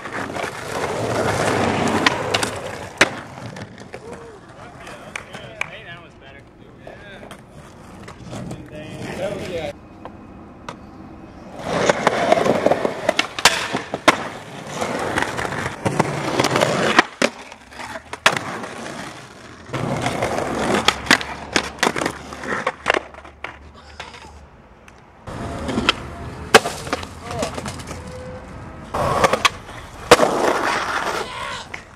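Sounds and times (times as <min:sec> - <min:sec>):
skateboard clacking on ground: 0:00.0 - 0:10.8, 0:11.6 - 0:31.9
skateboard wheels rolling: 0:00.0 - 0:31.9.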